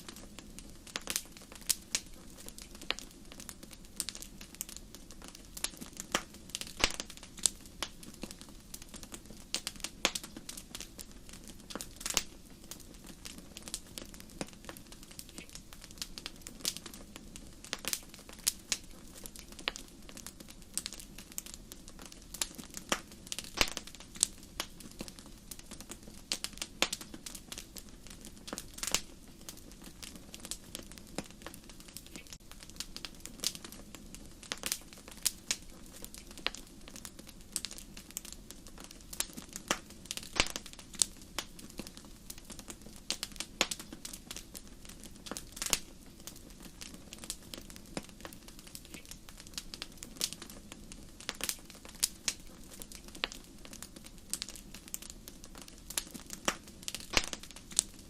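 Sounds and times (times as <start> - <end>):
low hiss of flames: 0.0 - 58.0
wood fire crackling and popping: 0.0 - 58.0.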